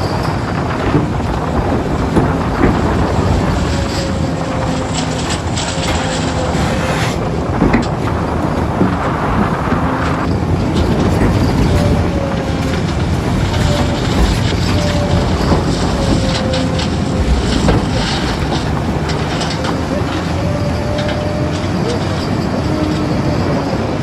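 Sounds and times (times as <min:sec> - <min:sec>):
diesel engine running under load: 0:00.0 - 0:24.0
faint whine sliding in pitch: 0:00.0 - 0:24.0.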